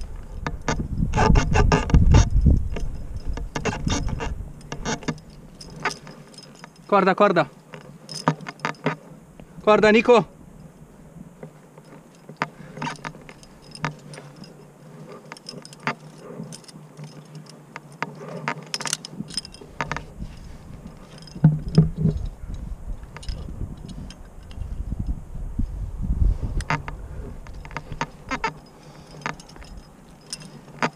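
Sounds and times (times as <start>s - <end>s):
carabiners clinking: 0.0s - 25.2s, 26.3s - 30.9s.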